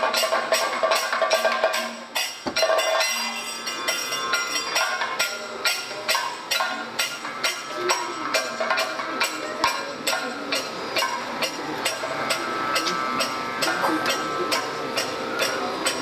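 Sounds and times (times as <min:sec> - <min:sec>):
drums: 0:00.0 - 0:16.0
ringing metallic percussion: 0:00.0 - 0:16.0.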